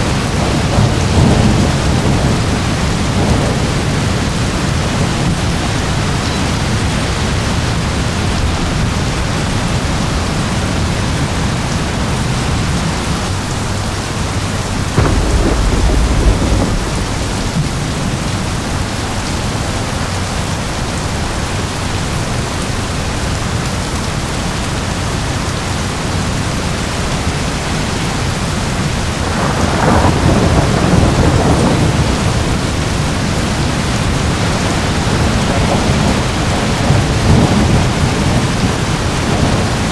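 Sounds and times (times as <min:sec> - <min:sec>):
thunder rumbling: 0:00.0 - 0:11.6, 0:12.2 - 0:21.4, 0:28.2 - 0:39.9
heavy rain: 0:00.0 - 0:39.9.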